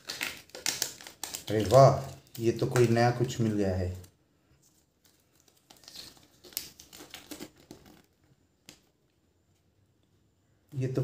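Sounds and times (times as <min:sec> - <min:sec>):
paper crinkling and rustling: 0:00.0 - 0:08.9.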